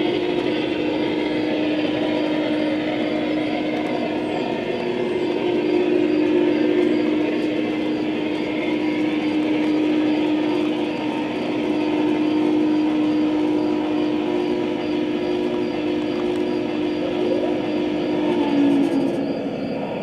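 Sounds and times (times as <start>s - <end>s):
faint rhythmic ticking: 0.0s - 20.0s
model train engine drone: 0.0s - 20.0s.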